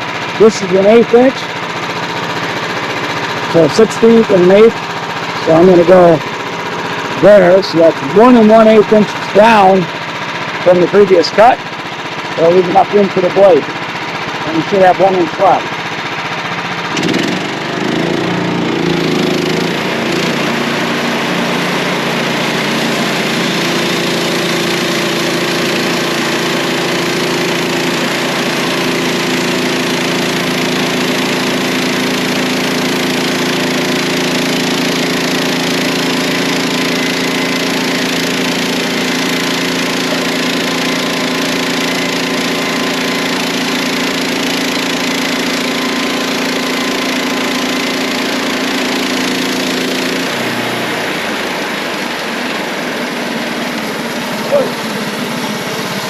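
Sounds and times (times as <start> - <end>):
band sawmill engine running: 0.0 - 56.0.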